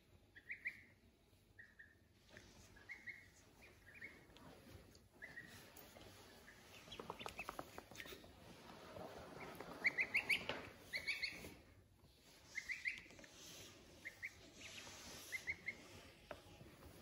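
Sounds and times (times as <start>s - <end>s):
waterfowl chicks peeping: 0.3s - 8.4s, 9.3s - 16.2s.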